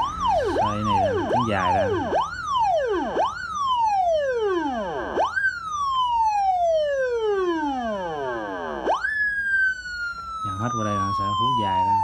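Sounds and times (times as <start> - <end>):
electronic siren wailing: 0.0 - 12.0.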